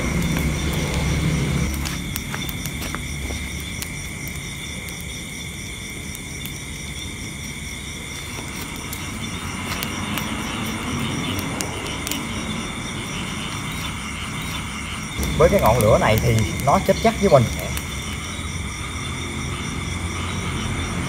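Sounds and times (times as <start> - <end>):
sharp pops of fire: 0.0 - 6.9, 8.0 - 18.4
insects trilling: 0.0 - 21.0
low rumble of flame: 0.0 - 21.0
straw and grass fire crackling: 0.0 - 21.0.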